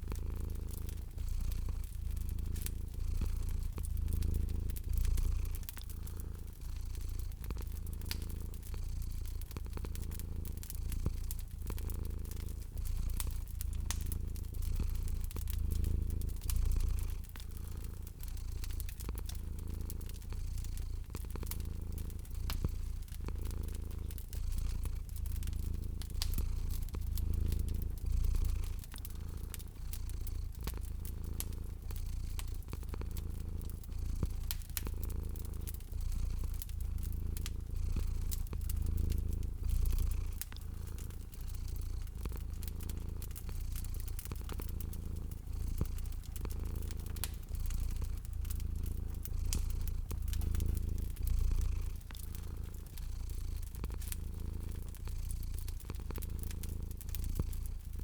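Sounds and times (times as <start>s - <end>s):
cat purring: 0.0s - 58.0s
wood fire crackling: 0.0s - 58.0s.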